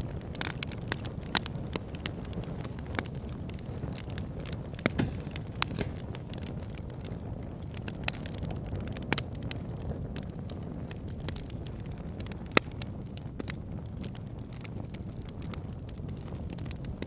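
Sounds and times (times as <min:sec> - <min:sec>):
fire rumbling: 0:00.0 - 0:17.0
wood crackling and popping: 0:00.0 - 0:17.0.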